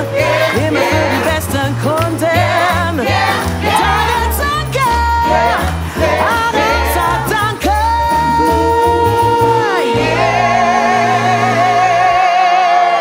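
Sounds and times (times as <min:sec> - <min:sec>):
bass line: 0:00.0 - 0:12.6
gospel choir singing: 0:00.0 - 0:13.0.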